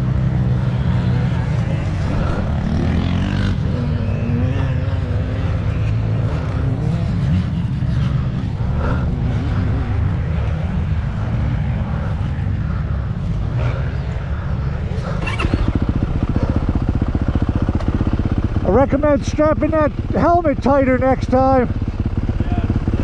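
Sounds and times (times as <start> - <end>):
dirt bike engines droning: 0.0 - 23.0.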